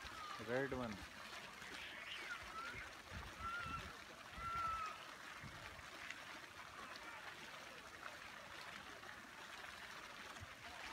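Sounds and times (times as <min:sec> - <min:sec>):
fountain water splashing into pool: 0:00.0 - 0:10.9.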